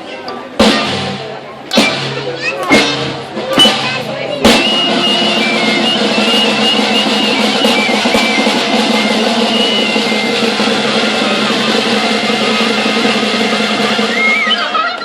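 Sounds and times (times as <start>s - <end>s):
drums: 0.0s - 15.0s
live ensemble music: 0.6s - 15.0s
high melody line: 1.7s - 14.9s.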